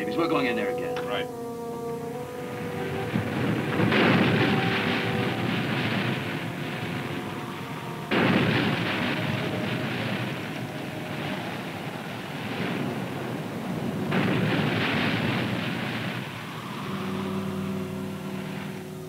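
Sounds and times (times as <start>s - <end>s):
rushing sea and spray: 0.0s - 19.0s
wave breaking: 1.8s - 19.0s.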